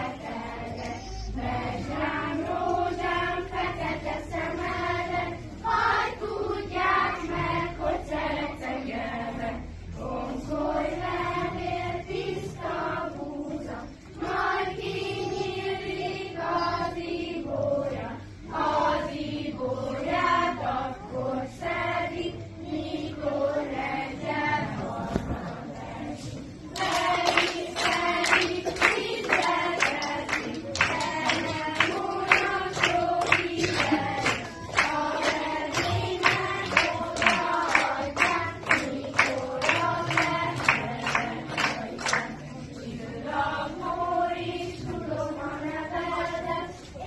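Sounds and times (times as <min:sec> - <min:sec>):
young voices singing in chorus: 0:00.0 - 0:47.0.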